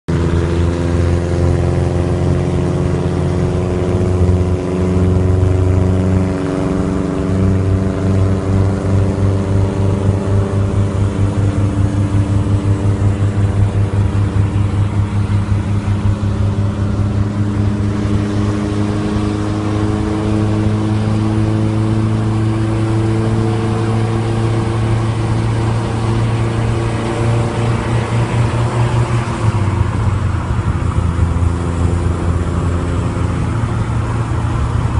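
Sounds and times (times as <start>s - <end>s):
engine running with throbbing pulse: 0.1s - 34.9s.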